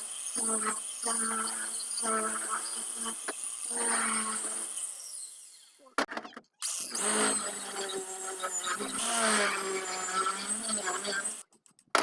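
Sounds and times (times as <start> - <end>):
angle grinder running: 0.0 - 5.8, 6.6 - 11.4.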